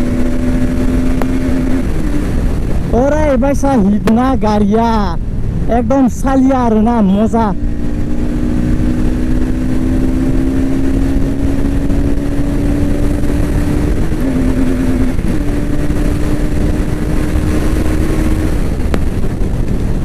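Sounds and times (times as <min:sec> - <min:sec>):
motorcycle engine at high revs: 0:00.0 - 0:03.0, 0:07.0 - 0:20.0
wind rushing over microphone: 0:00.0 - 0:20.0.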